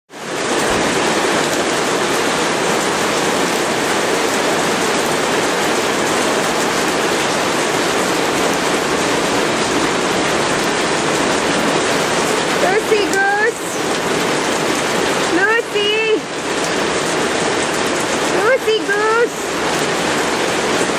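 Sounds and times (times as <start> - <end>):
steady rain pouring: 0.1 - 20.9.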